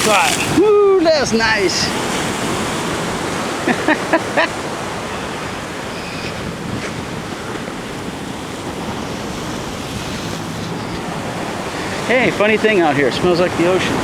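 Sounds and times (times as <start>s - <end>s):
surf breaking over rocks: 0.0s - 14.0s
wind on microphone: 0.0s - 14.0s.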